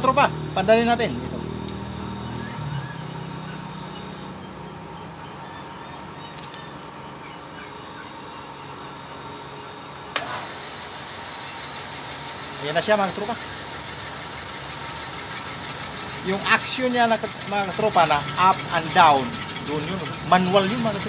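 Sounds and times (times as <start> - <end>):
low machine hum and hiss: 0.0 - 21.0.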